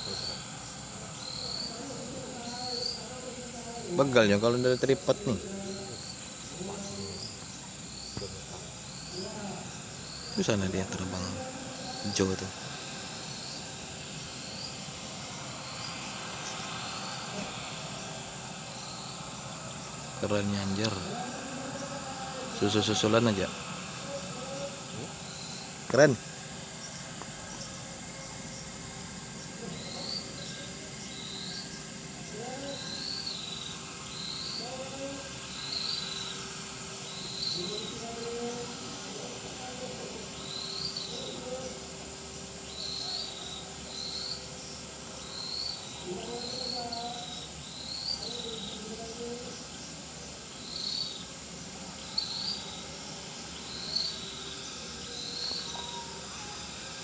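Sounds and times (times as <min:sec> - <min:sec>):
faint distant voices: 0:00.0 - 0:57.0
high-pitched insect drone: 0:00.0 - 0:57.0
short high insect chirp: 0:00.0 - 0:57.0.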